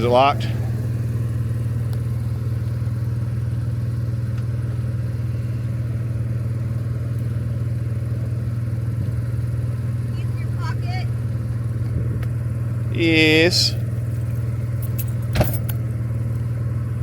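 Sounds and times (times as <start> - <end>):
portable generator droning: 0.0 - 17.0.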